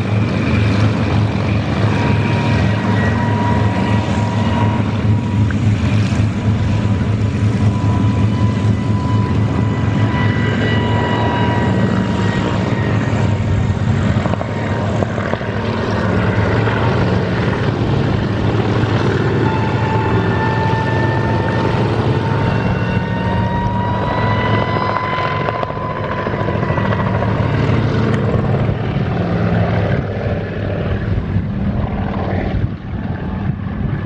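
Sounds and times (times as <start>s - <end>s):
helicopter drone with whine: 0.0s - 34.0s.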